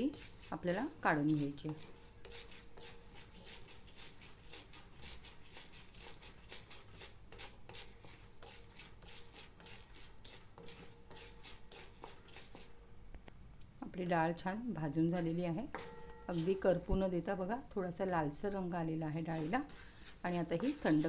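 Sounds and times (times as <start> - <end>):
dry lentils rattling in iron pan: 0.0 - 12.7, 15.2 - 17.7, 19.1 - 21.0.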